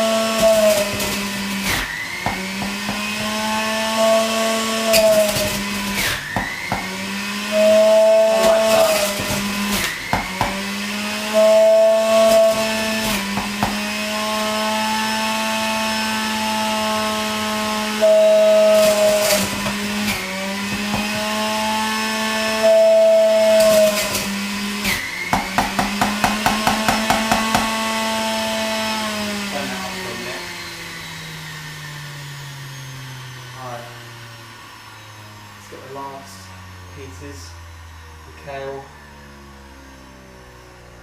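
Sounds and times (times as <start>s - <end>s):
electric juicer motor whining: 0.0s - 41.0s.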